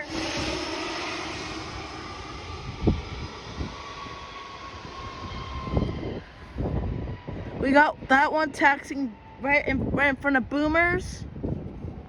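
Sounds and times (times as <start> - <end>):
faint jet engine whine: 0.0 - 12.0
jet engines rushing: 0.0 - 12.0.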